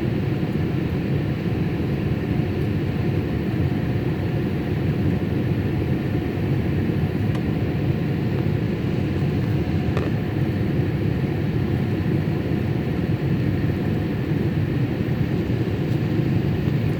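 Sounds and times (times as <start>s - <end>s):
airliner cabin engine rush: 0.0s - 16.9s.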